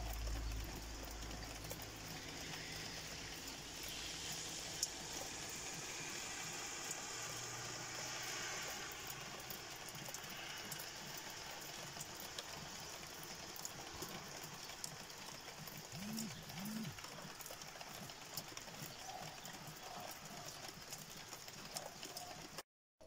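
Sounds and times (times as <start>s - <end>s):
drips ticking: 0.0s - 5.6s, 6.2s - 22.6s
steady rain falling: 0.0s - 22.6s.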